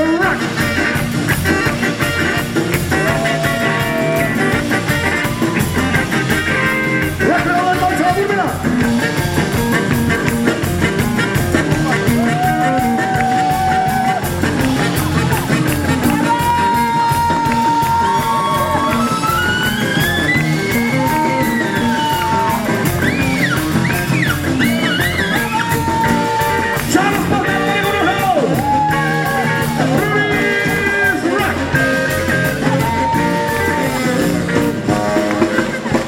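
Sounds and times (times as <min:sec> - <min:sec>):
bass: 0:00.0 - 0:36.0
drums keeping steady beat: 0:00.0 - 0:36.0.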